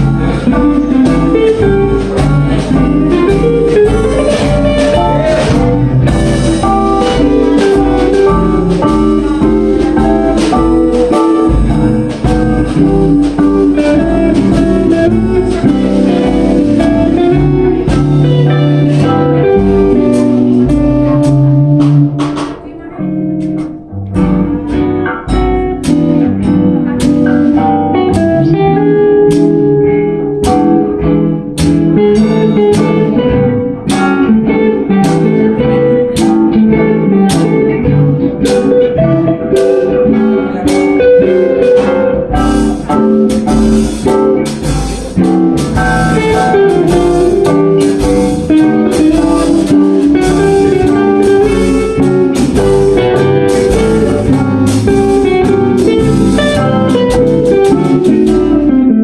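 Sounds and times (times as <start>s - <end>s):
drum kit beat: 0.0s - 59.0s
jazz electric guitars: 0.0s - 59.0s.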